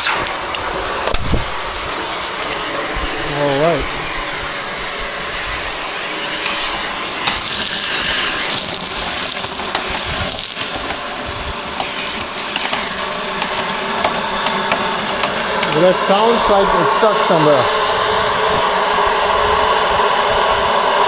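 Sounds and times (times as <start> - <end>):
grit rattling through vacuum: 0.0 - 20.7
vacuum cleaner running: 0.0 - 21.0.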